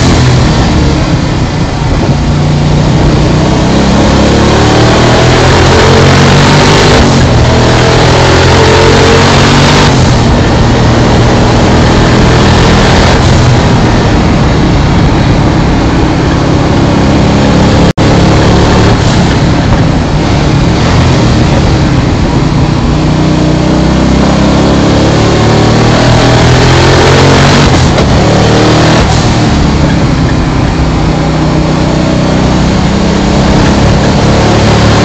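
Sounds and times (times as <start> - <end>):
race car engine running hard: 0.0 - 35.0.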